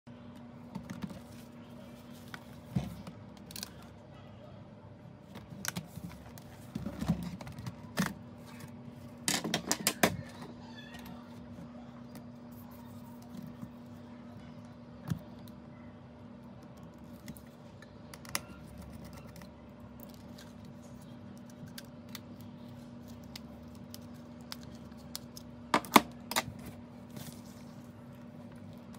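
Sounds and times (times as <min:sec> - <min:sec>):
steady low hum: 0:00.1 - 0:28.9.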